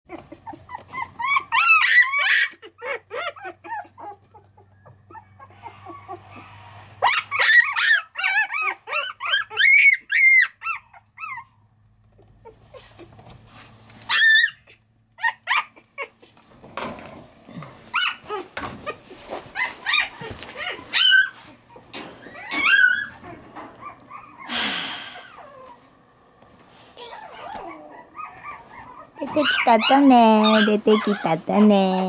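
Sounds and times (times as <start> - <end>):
puppies crying and whining: 0.1 - 13.2, 13.8 - 16.4, 17.7 - 26.2, 26.8 - 32.0.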